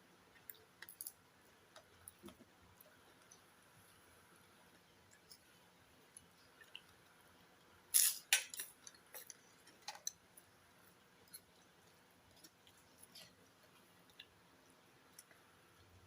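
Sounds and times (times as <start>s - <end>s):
crackly eating noises: 0.0s - 16.0s.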